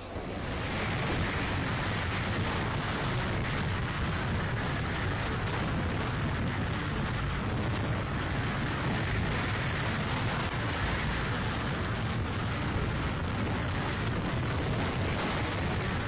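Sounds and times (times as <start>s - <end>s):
driving rain: 0.0s - 16.0s
hurricane winds: 0.0s - 16.0s
wind buffeting microphone: 0.0s - 16.0s.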